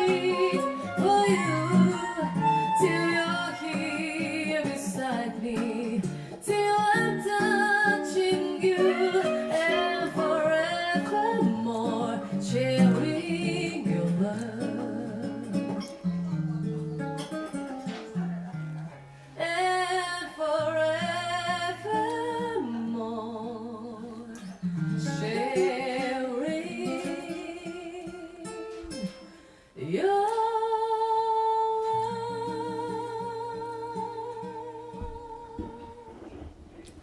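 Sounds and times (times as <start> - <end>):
person singing with vibrato: 0.0 - 15.9, 19.4 - 28.8, 29.8 - 36.3
guitar: 0.0 - 37.0.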